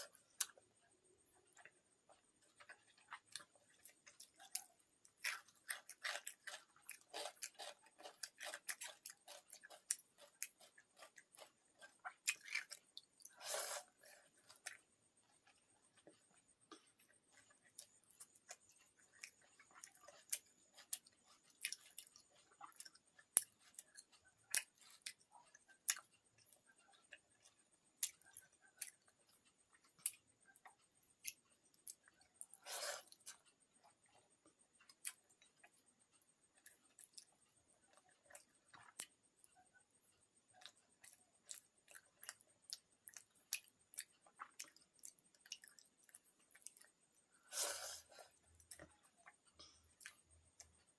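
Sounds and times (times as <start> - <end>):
chewing: 0.0 - 50.9.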